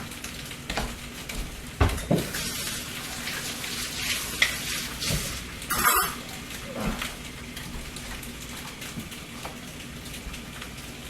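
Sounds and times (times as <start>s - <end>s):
food sizzling in a pan: 1.9s - 10.9s.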